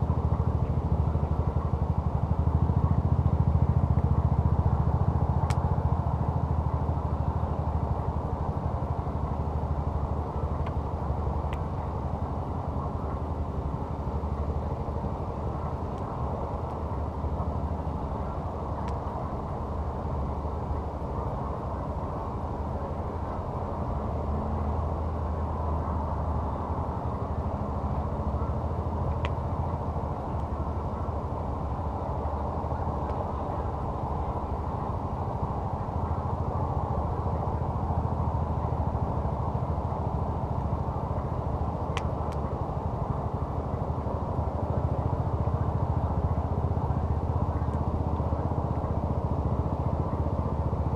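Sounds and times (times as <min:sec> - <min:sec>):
campfire burning: 0:00.0 - 0:50.9.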